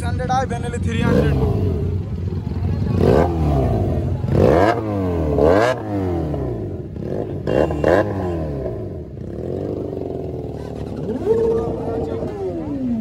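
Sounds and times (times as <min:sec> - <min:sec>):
motorcycle engine revving: 0:00.6 - 0:13.0.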